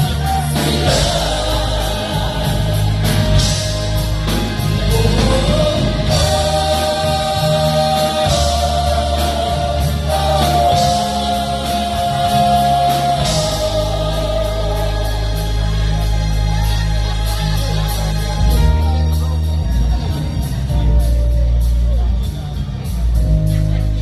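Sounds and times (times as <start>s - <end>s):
person singing gospel: 0.0s - 21.5s
bass and drums: 0.0s - 24.0s.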